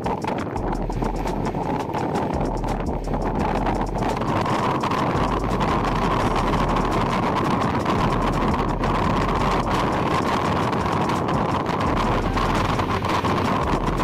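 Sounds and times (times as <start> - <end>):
train wheels rumbling on rails: 0.0 - 14.0
wind noise: 0.0 - 14.0.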